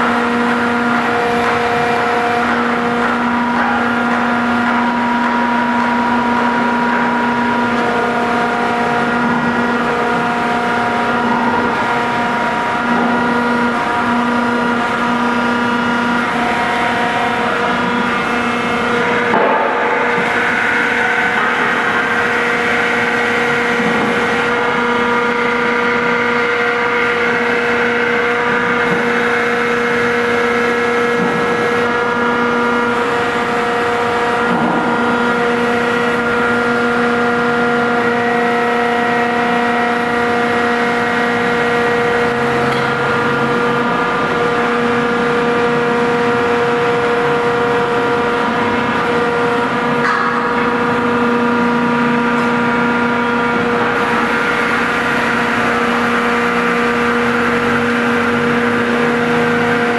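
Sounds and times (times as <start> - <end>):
electric motor and hydraulic hum: 0.0 - 59.9.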